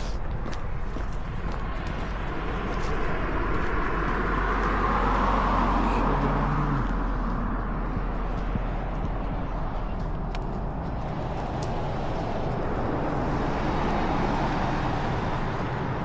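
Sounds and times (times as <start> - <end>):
car passing by: 0.0 - 16.0.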